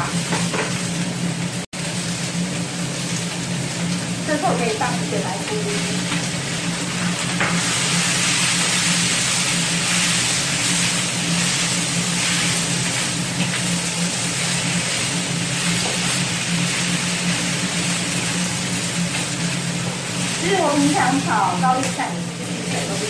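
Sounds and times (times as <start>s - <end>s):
range hood fan hum: 0.0s - 23.0s
vegetables sizzling in a wok: 0.0s - 23.0s.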